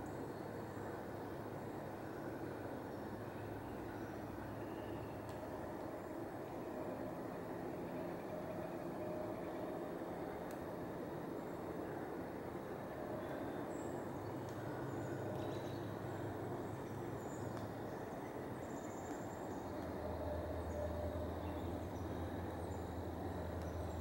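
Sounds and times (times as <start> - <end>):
distant city traffic hum: 0.0 - 24.0.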